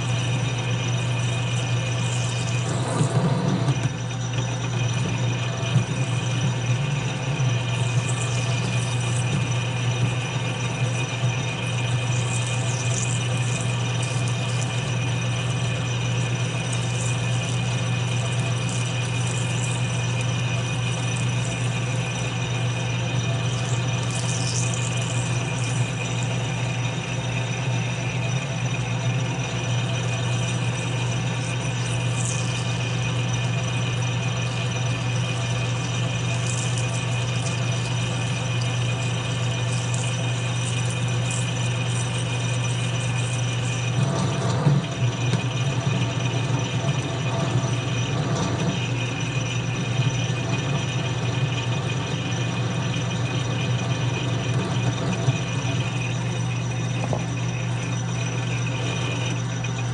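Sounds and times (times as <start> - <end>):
metal lathe humming and rattling: 0.0 - 59.9.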